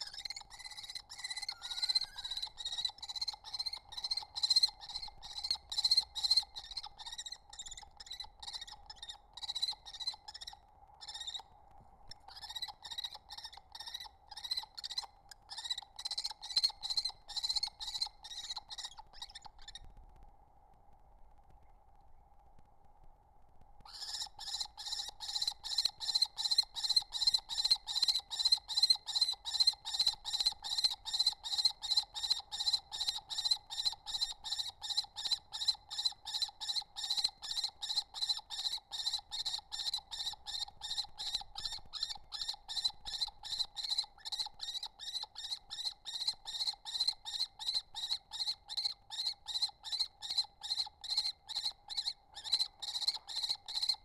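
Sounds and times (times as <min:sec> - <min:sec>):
kestrel calling: 0:00.0 - 0:11.4, 0:12.2 - 0:19.8, 0:23.9 - 0:54.0.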